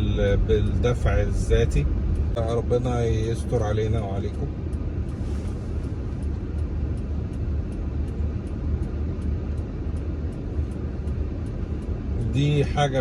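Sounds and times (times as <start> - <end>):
hazard-light flasher ticking: 0.0 - 5.2, 5.8 - 13.0
low rumble of engine and tyres: 0.0 - 13.0.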